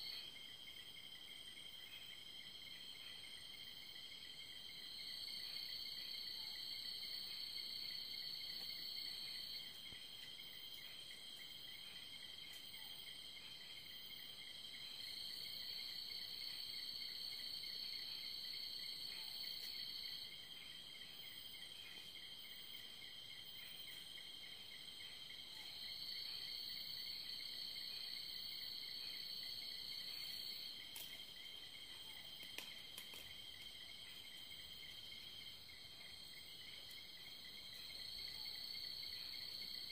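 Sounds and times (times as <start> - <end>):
steady insect trill: 0.0 - 39.9.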